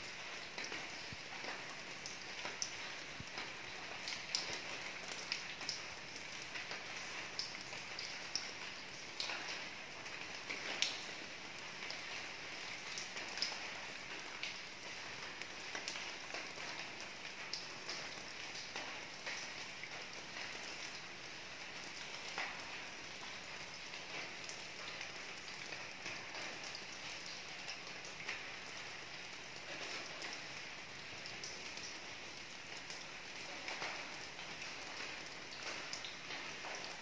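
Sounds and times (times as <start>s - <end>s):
rain falling on a roof: 0.0s - 37.0s.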